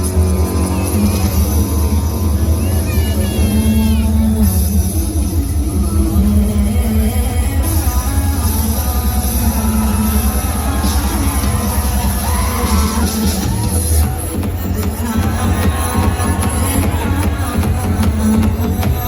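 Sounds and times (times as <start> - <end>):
loud bass-heavy music: 0.0 - 19.0.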